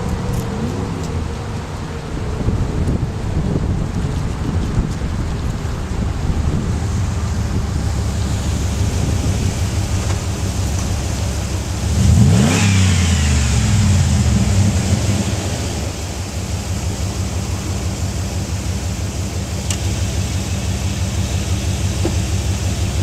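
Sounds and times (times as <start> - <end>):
truck engine revving and idling: 0.0 - 23.0.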